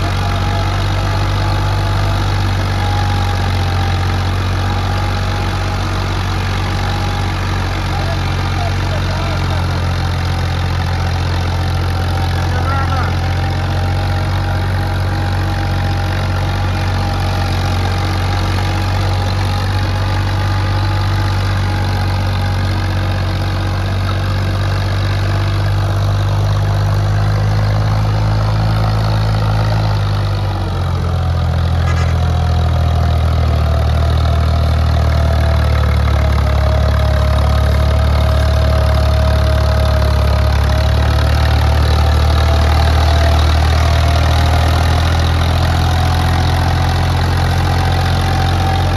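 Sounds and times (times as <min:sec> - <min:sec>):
tractor diesel engine under load: 0:00.0 - 0:48.9.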